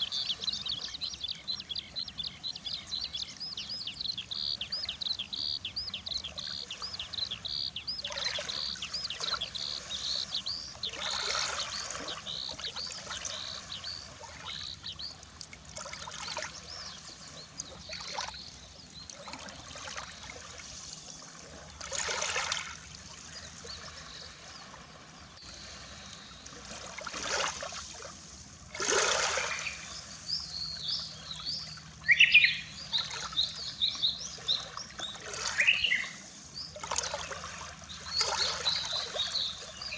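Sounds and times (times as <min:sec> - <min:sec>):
small waves washing on shore: 0:00.0 - 0:01.6, 0:04.3 - 0:39.9
small birds chirping: 0:00.0 - 0:22.2, 0:29.0 - 0:39.9.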